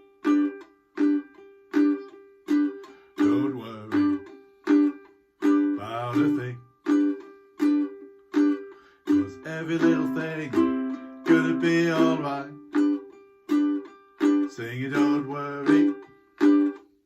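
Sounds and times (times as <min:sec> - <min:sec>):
ukulele strumming chords: 0:00.0 - 0:17.0.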